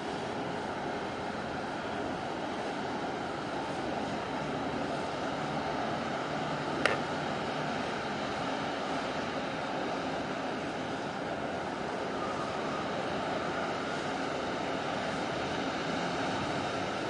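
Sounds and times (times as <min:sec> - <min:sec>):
ship engine drone: 0:00.0 - 0:17.0
water wash from ship: 0:00.0 - 0:17.0.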